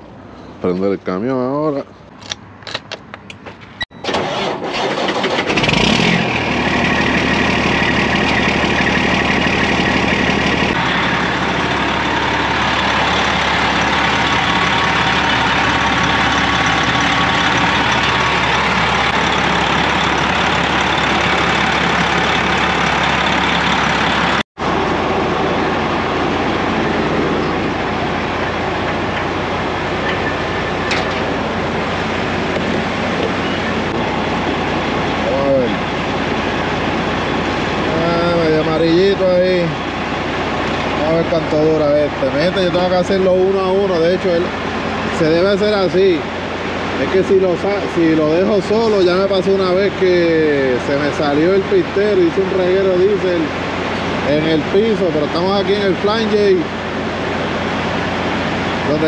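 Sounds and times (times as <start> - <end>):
diesel truck engine cranking: 2.2 - 59.0
diesel engine idling: 4.1 - 59.0.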